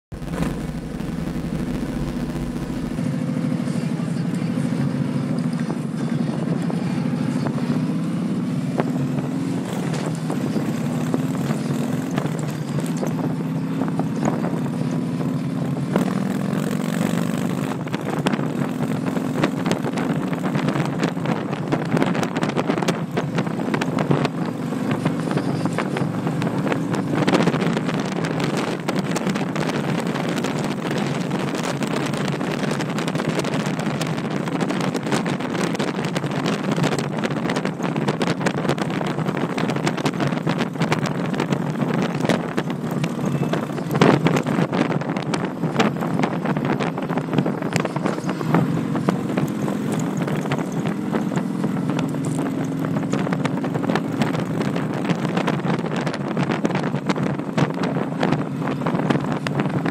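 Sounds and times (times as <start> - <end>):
motorcycle engine and exhaust: 0.0 - 59.9
wind buffeting the microphone: 8.7 - 59.9.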